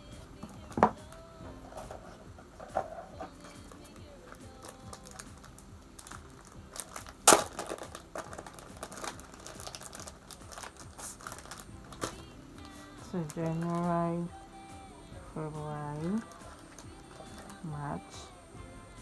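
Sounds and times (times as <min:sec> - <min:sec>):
paper calendar rustling: 0:00.3 - 0:18.4.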